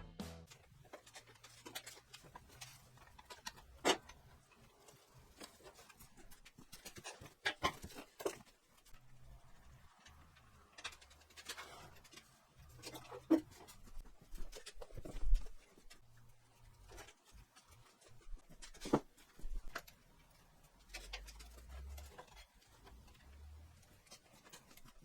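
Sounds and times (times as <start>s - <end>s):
hand tools clicking and knocking: 0.5s - 25.0s.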